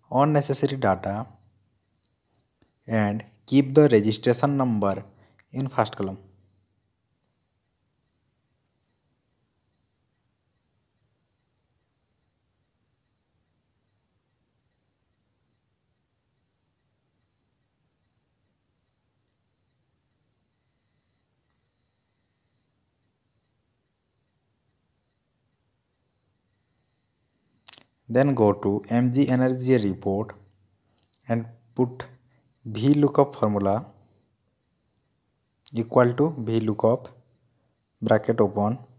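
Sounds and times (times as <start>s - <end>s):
faint high-pitched whine: 0.0s - 38.9s.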